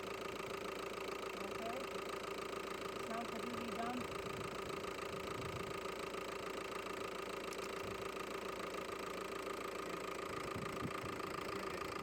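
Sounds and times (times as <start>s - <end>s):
constant whine: 0.0s - 12.0s
diesel engine idling: 0.0s - 12.0s.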